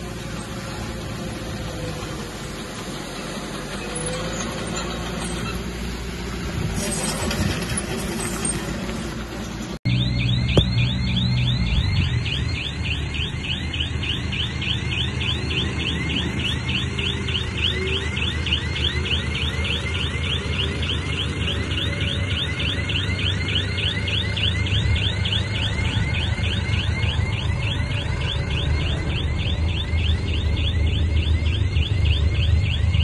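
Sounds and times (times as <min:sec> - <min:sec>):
heavy machine engine running: 0:00.0 - 0:33.0.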